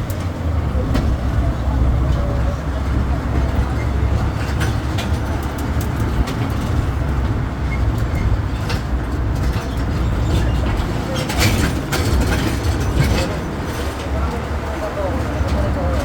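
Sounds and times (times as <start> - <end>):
carriages clicking and rattling: 0.0 - 16.0
low engine rumble: 0.0 - 16.0
road noise: 0.0 - 16.0.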